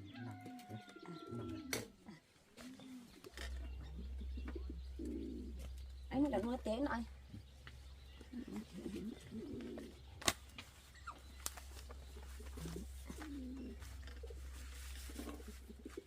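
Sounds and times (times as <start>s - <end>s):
bird cooing: 0.0s - 10.2s, 10.9s - 16.0s.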